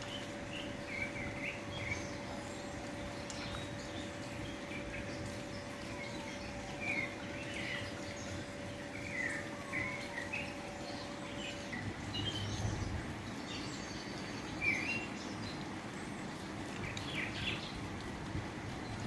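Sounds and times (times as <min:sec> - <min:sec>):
faint steady hum: 0:00.0 - 0:19.0
outdoor background hiss: 0:00.0 - 0:19.0
small songbirds chirping: 0:00.0 - 0:19.0.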